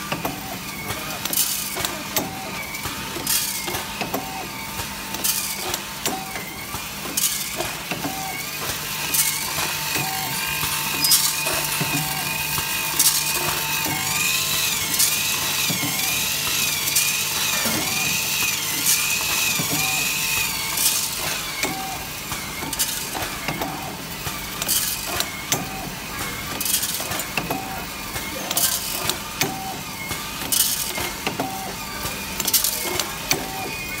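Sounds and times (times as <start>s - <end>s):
packing machine clacking: 0.0s - 34.0s.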